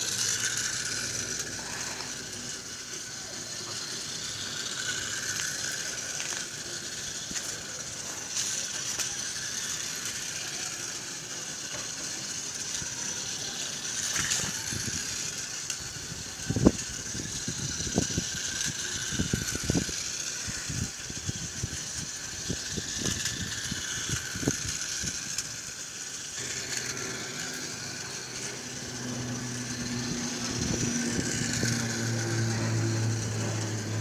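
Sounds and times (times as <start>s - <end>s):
toy motor and gears whirring: 0.0s - 34.0s.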